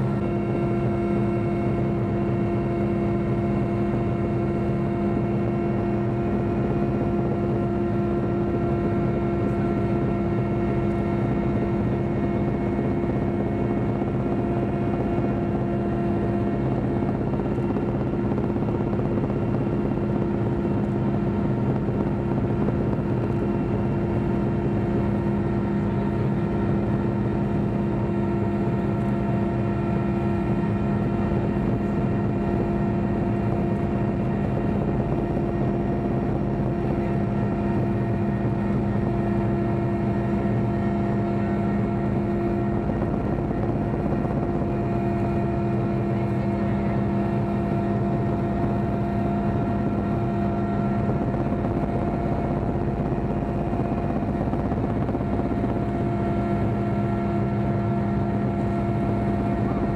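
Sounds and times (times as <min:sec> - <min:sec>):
helicopter cabin drone: 0:00.0 - 0:59.9.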